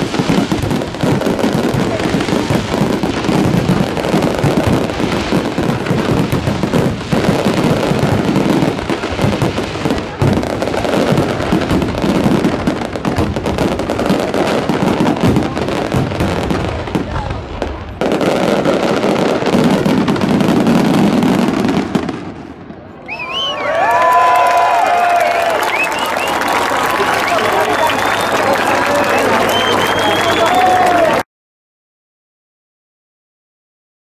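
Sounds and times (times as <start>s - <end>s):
fireworks bangs and crackling: 0.0s - 23.4s, 25.3s - 31.2s.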